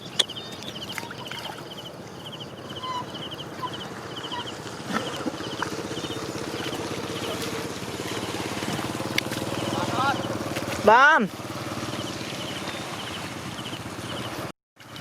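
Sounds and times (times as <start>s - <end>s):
insects chirping in fast trills: 0.0s - 10.4s, 11.8s - 14.4s
small engine running: 2.0s - 15.0s.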